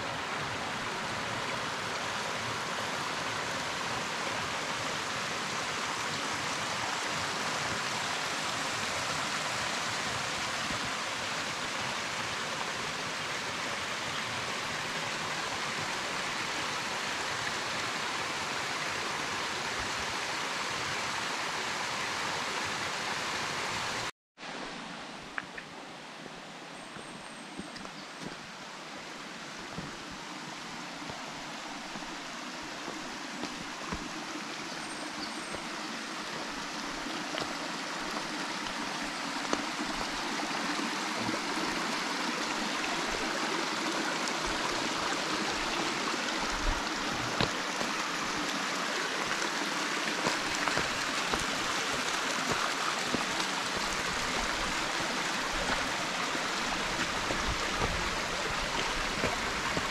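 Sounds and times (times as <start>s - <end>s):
stream rushing over rocks: 0.0s - 25.6s, 27.8s - 59.9s.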